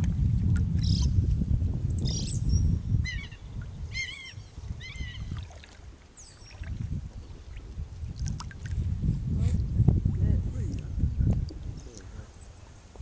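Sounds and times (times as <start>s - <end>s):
low uneven rumble from canoe: 0.0s - 13.0s.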